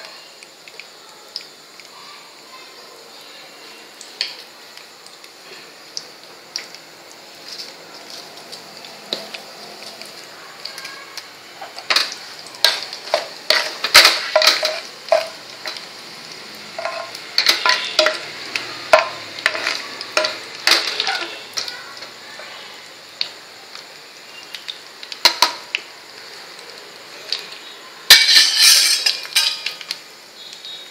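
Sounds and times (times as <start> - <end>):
spices sizzling in hot oil: 0.0 - 30.9.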